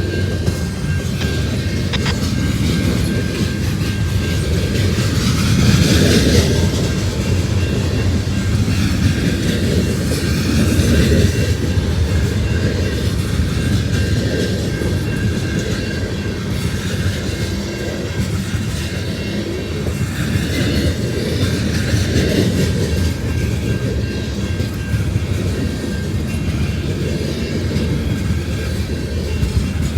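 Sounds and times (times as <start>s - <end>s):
freight train cars rumbling: 0.0s - 29.9s.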